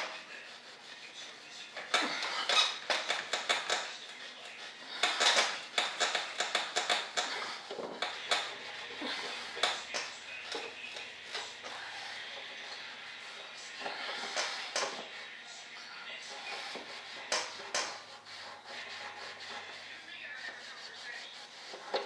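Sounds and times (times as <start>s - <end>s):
hand sanding a mold: 0.0s - 22.0s.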